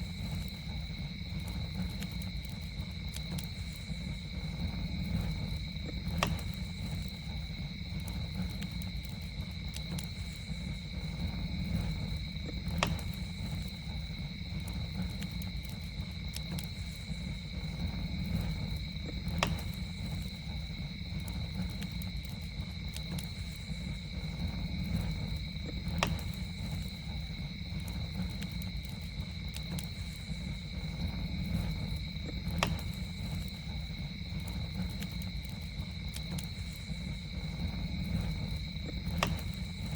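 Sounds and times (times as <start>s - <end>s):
campfire crackling and popping: 0.0s - 39.9s
campfire low rumble: 0.0s - 39.9s.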